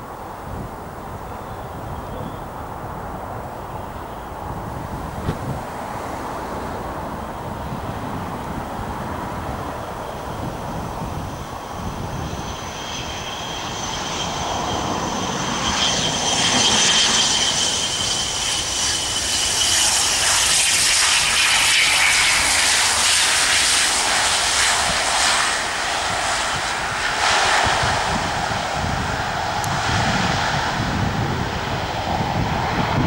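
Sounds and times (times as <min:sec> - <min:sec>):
turboprop airliner landing: 0:00.0 - 0:33.0.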